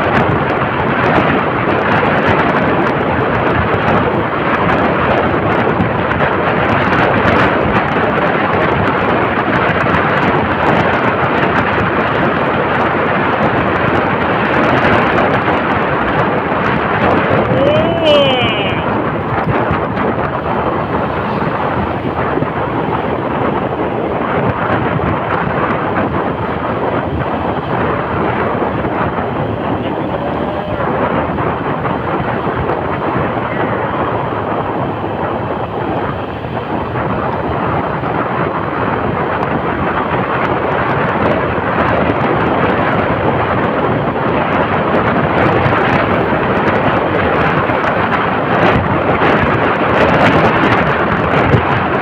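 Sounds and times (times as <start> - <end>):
road noise: 0.0 - 52.0
wind rushing on microphone: 0.0 - 52.0.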